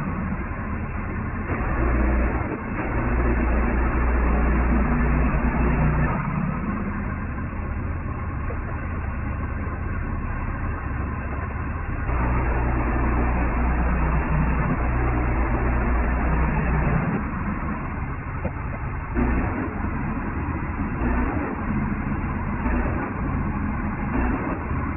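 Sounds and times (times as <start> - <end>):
sawmill gas engine running: 0.0 - 24.9.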